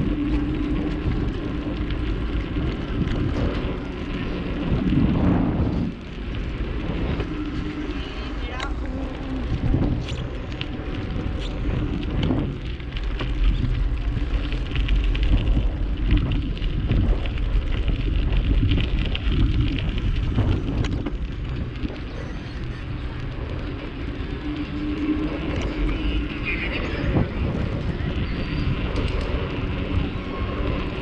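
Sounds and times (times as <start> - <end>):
bicycle clicks and rattles: 0.0 - 31.0
wind buffeting microphone: 0.0 - 31.0.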